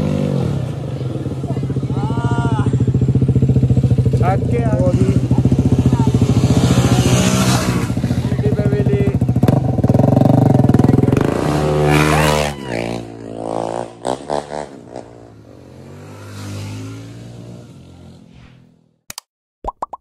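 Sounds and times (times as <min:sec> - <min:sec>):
distant motorcycle revving: 0:00.0 - 0:19.0
motorcycle passing by: 0:00.0 - 0:19.0.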